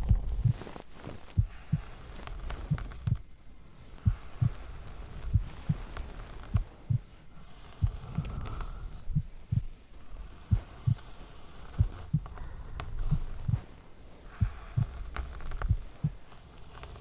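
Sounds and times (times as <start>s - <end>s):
heartbeat thumps: 0.0s - 3.4s, 4.0s - 7.2s, 7.8s - 16.3s
faint steady hiss: 0.0s - 17.0s.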